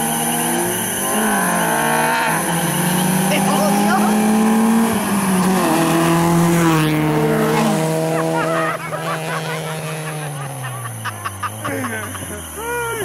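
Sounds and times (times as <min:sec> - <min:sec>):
race car engines accelerating: 0:00.0 - 0:13.0.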